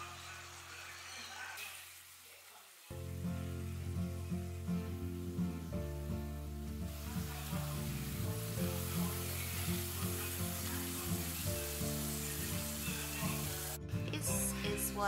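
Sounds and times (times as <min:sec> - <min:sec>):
liver sizzling in a pan: 0:00.0 - 0:15.0.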